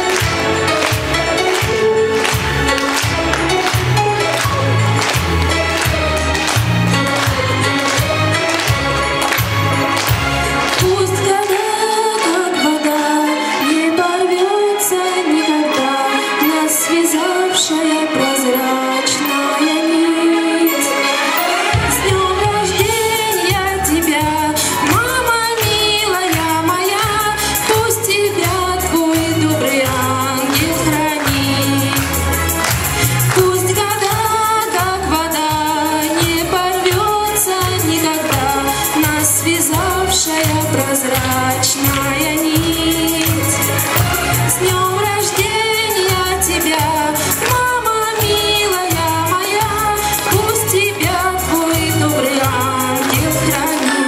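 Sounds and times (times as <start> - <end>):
backing track with steady beat: 0.0 - 12.2, 21.4 - 54.0
woman singing into microphone: 10.7 - 54.0.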